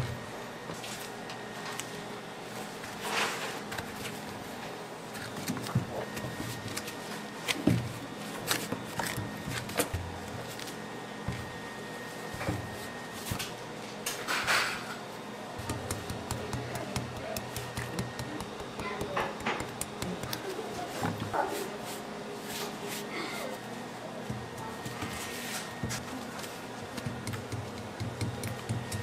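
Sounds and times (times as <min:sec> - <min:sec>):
room hum: 0:00.0 - 0:29.0.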